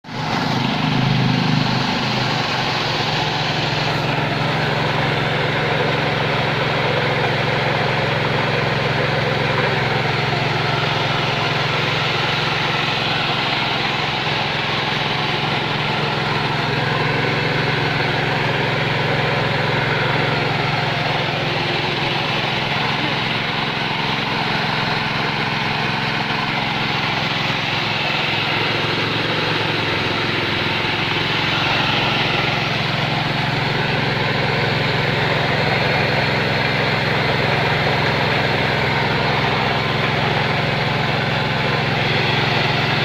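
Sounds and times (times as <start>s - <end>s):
rice machine engine hum: 0.0s - 43.0s.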